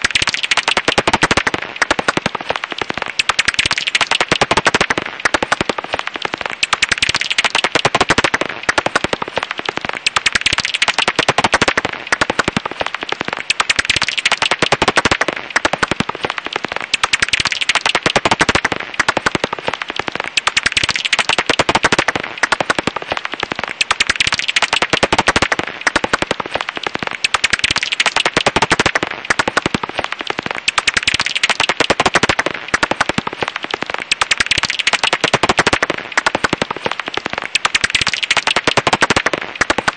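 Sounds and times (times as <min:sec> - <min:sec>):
bat echolocation click crackle: 0:00.0 - 0:39.9.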